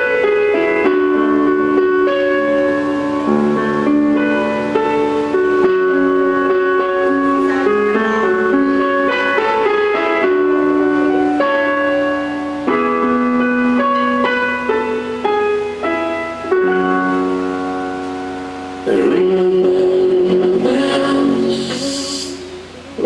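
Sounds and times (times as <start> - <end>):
sustained keyboard chords: 0.0 - 23.0.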